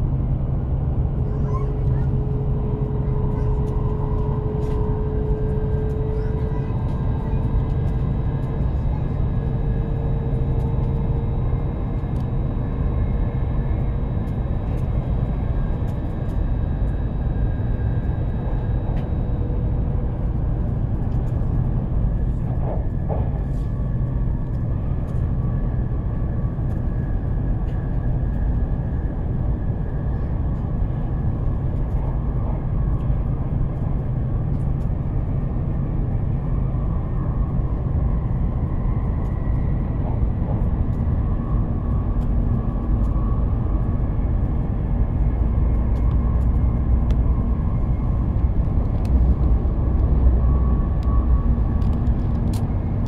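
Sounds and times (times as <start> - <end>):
faint whining tones: 0.0 - 53.0
train low rumble: 0.0 - 53.0.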